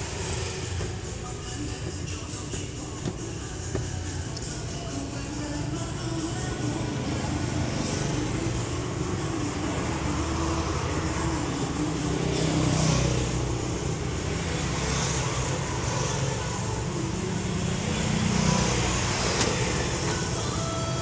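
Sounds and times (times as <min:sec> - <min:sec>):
road traffic: 0:00.0 - 0:21.0
vehicles passing: 0:00.0 - 0:21.0.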